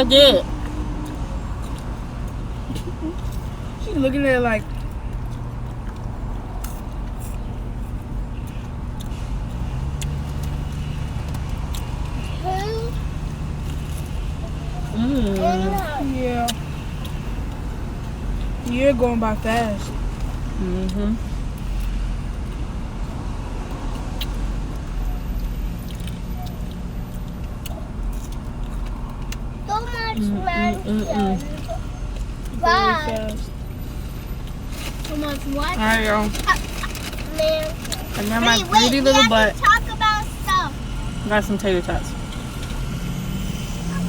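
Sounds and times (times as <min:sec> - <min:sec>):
car engine idling: 0:00.0 - 0:44.0
chewing: 0:00.5 - 0:03.8, 0:04.6 - 0:18.6, 0:19.9 - 0:44.0.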